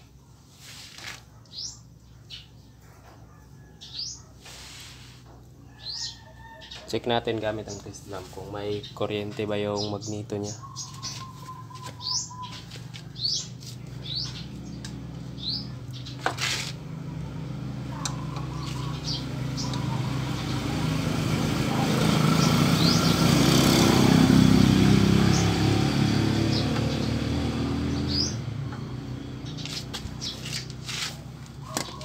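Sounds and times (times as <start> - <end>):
small birds chirping: 0.0 - 32.0
motor vehicle passing: 4.0 - 6.2, 7.0 - 32.0.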